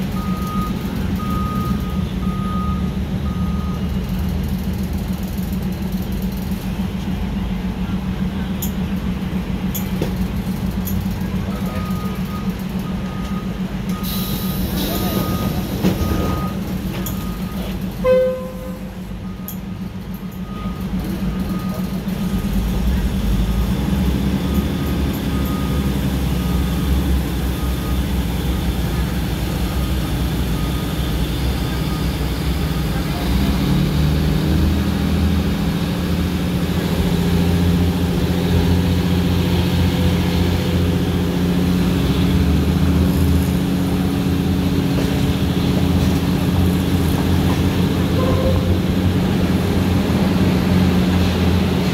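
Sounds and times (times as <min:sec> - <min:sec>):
train engine drone: 0:00.0 - 0:51.9
train wheels on rails: 0:00.0 - 0:51.9.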